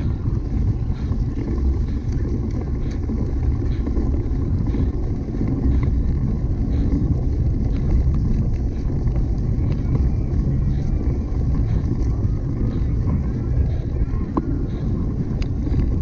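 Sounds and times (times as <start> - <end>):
faint clicks and rattles: 0.0 - 16.0
wind rumble on microphone: 0.0 - 16.0.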